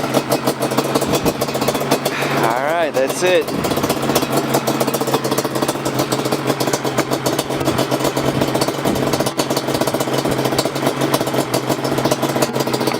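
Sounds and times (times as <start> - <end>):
two-stroke engine crackling: 0.0 - 12.9.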